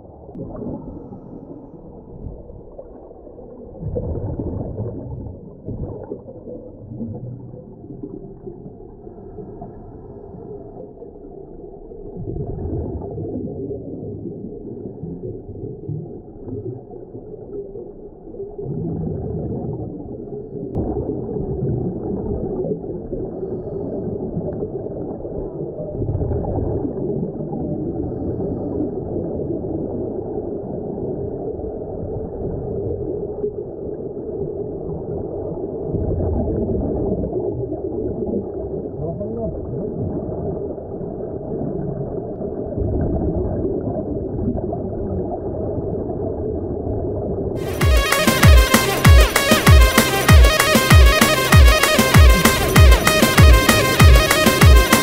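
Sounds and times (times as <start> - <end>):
air bubbles gurgling: 0.0 - 9.9, 12.0 - 47.7
low underwater rumble: 0.0 - 47.7.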